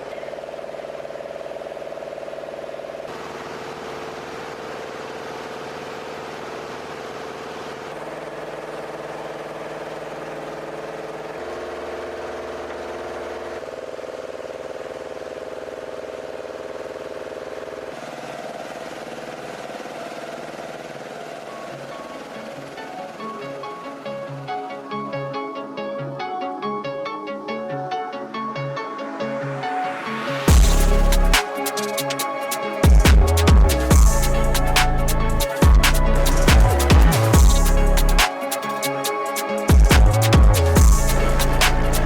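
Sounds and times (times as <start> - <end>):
humming machinery: 0.0 - 42.0.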